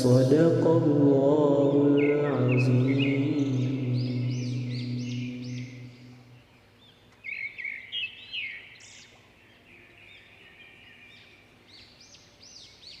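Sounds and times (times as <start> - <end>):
small birds chirping: 1.6 - 13.0.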